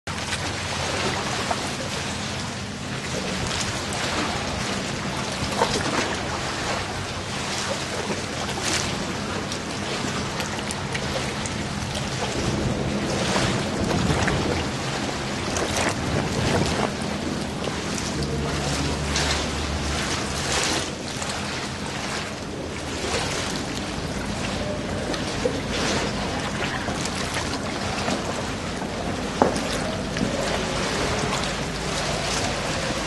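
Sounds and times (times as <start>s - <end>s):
low hum: 0.1s - 33.0s
steady rushing noise: 0.1s - 33.0s.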